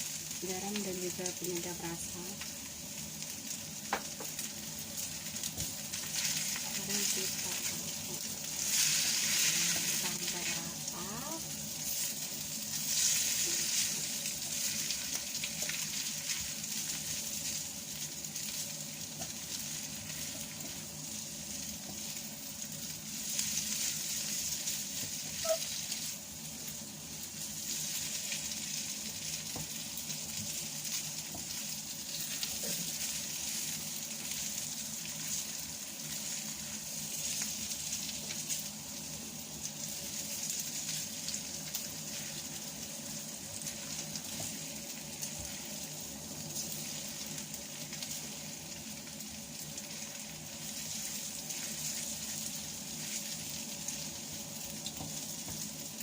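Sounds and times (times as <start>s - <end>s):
noodles sizzling in hot oil: 0.0s - 56.0s.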